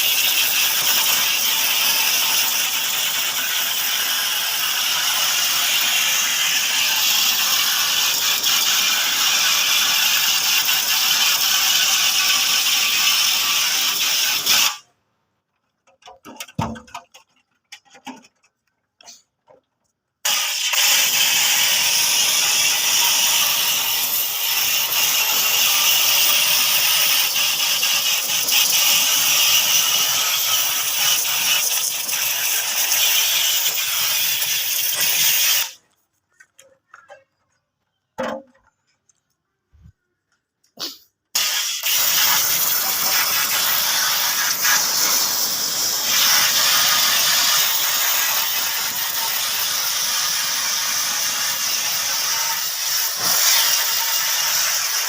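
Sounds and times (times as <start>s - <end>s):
water jet hissing: 0.0s - 14.8s, 20.2s - 35.8s, 40.8s - 55.0s.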